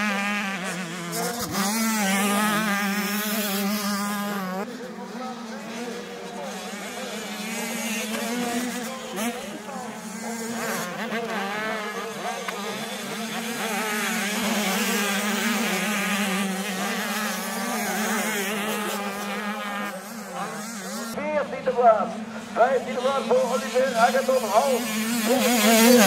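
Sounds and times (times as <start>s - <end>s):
motocross bikes buzzing at high revs: 0.0s - 26.0s.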